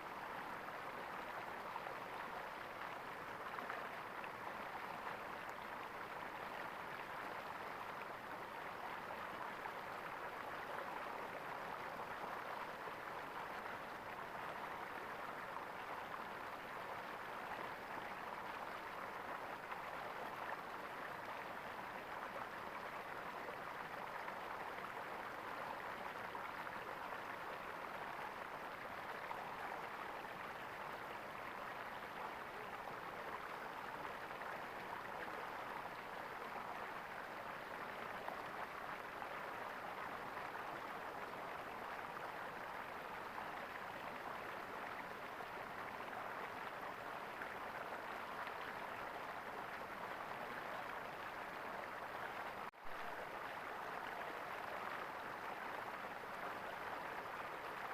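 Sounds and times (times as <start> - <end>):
stream water gurgling: 0.0 - 57.9.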